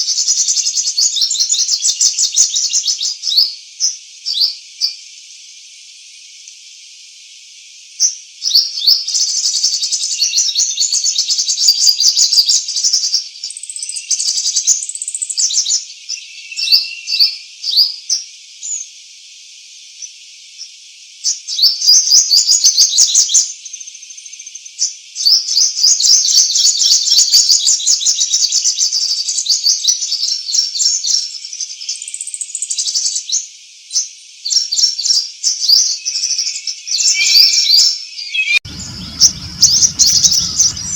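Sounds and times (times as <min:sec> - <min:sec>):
songbird chirping and trilling: 0:00.0 - 0:05.1, 0:08.0 - 0:18.9, 0:20.0 - 0:40.9.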